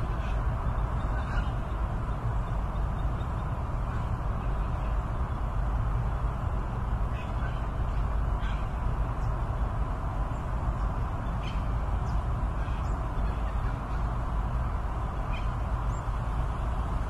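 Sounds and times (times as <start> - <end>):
steady rumbling noise: 0.0 - 17.0.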